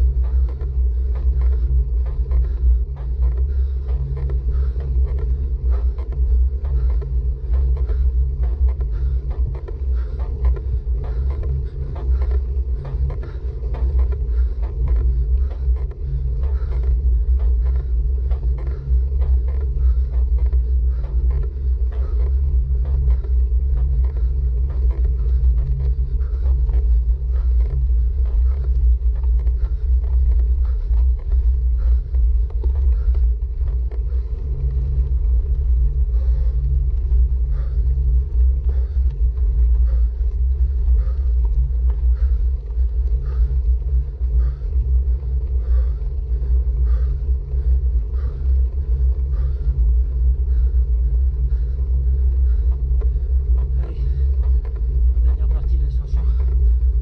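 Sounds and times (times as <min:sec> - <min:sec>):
wind and road rumble: 0:00.0 - 0:57.0.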